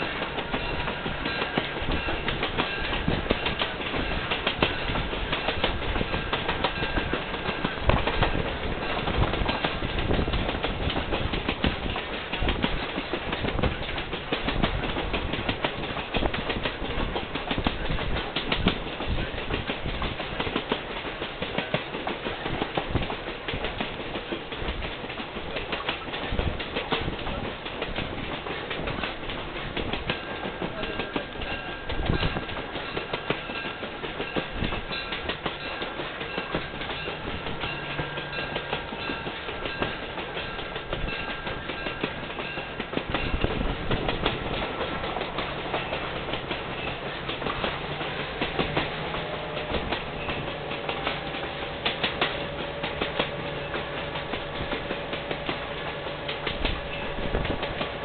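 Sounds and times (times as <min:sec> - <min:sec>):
clickety-clack over rail joints: 0:00.0 - 0:58.0
train wheels rumbling on rails: 0:00.0 - 0:58.0.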